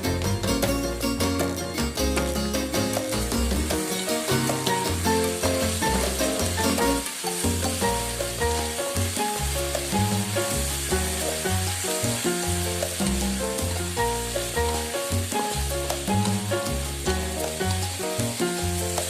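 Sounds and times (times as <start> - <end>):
background music with bass line: 0.0 - 19.0
food sizzling in a pan: 0.0 - 19.0.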